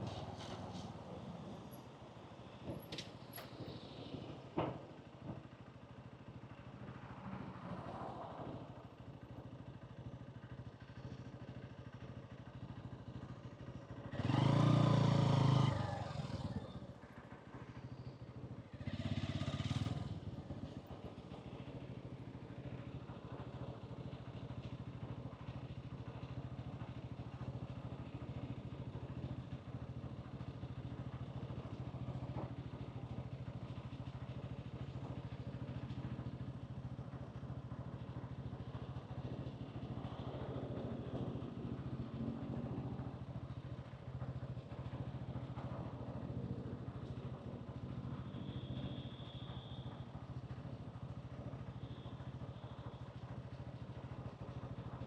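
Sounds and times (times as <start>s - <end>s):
traffic noise: 0.0s - 55.0s
motorcycle engine running: 8.8s - 55.0s.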